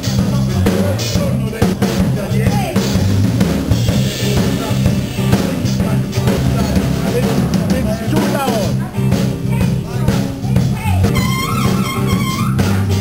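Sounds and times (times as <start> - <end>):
bass line: 0.0 - 13.0
drum kit playing: 0.0 - 13.0.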